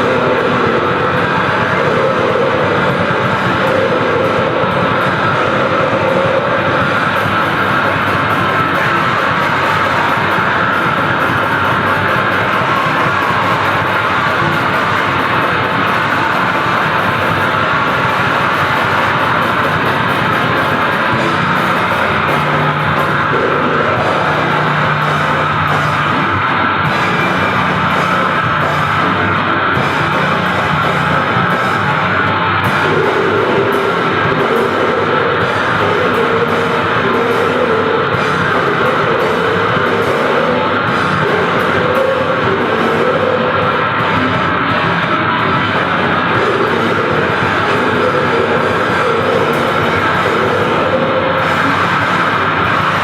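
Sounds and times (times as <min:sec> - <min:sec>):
grindcore band playing: 0:00.0 - 0:53.0.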